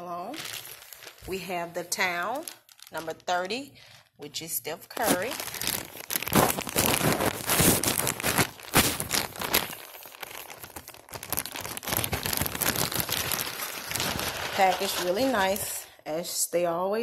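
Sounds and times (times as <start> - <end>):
plastic bag crinkling: 0.0 - 4.1, 4.9 - 15.9.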